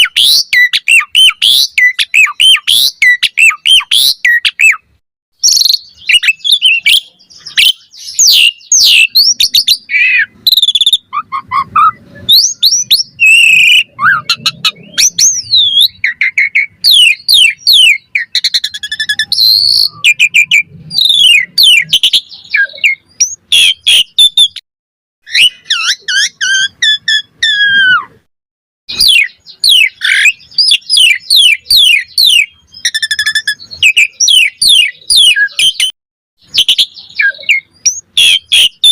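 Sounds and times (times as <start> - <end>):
starling singing: 0.0 - 24.6, 25.2 - 28.3, 28.9 - 38.9.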